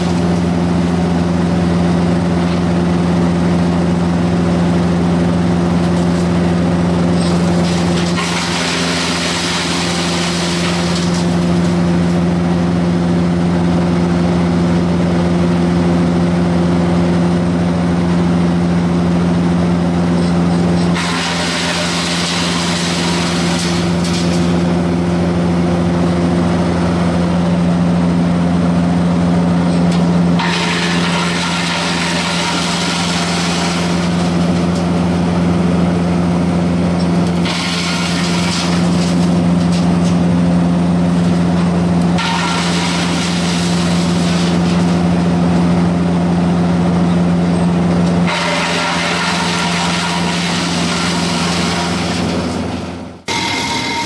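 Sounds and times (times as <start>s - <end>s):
wood chipper diesel engine running: 0.0s - 54.0s.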